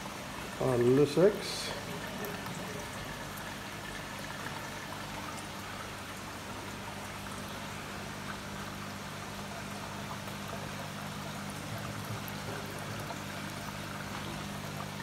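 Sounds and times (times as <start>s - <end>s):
water bubbling and trickling: 0.0s - 15.0s.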